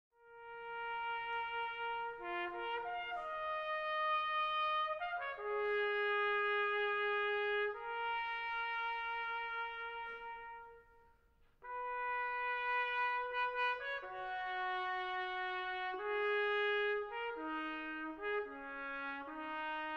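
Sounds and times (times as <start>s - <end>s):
solo trumpet slow melody: 0.2s - 19.9s.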